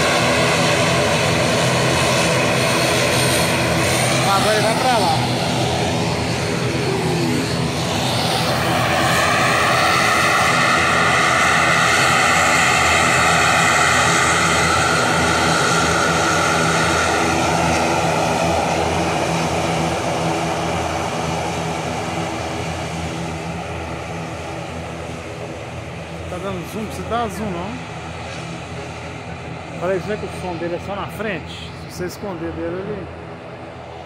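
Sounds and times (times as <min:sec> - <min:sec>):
turboprop engines whining: 0:00.0 - 0:34.0.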